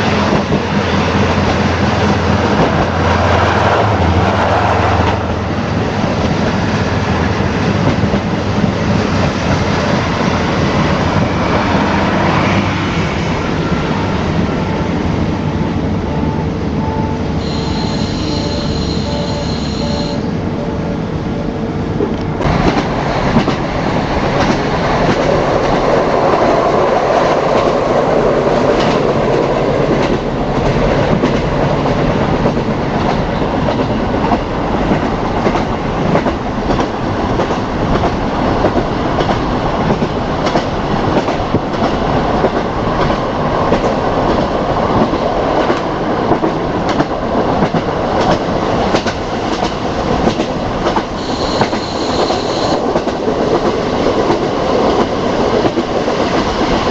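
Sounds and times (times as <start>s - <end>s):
train roar from inside: 0.0s - 56.9s.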